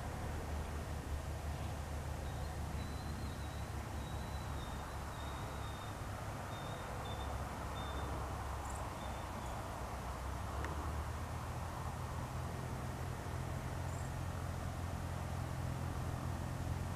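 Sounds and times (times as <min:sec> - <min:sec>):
distant aircraft engines droning: 0:00.0 - 0:16.9.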